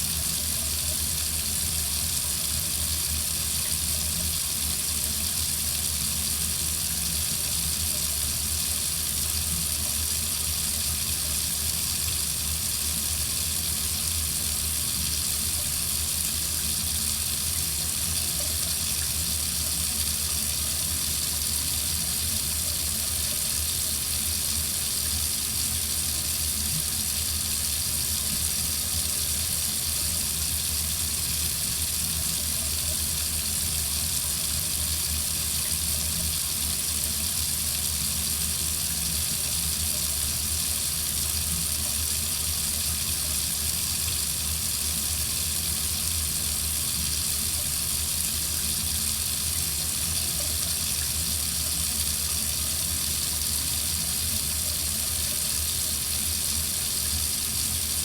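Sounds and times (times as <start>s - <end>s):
faucet running into sink: 0.0s - 58.0s.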